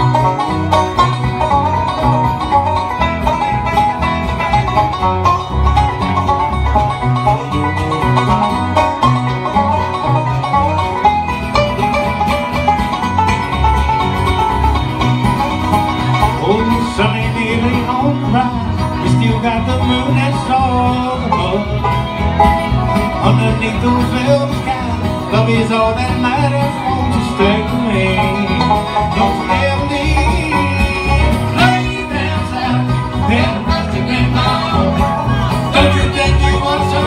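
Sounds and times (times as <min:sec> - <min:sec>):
acoustic guitar: 0:00.0 - 0:37.0
bass guitar: 0:00.0 - 0:37.0
fiddle: 0:00.0 - 0:37.0.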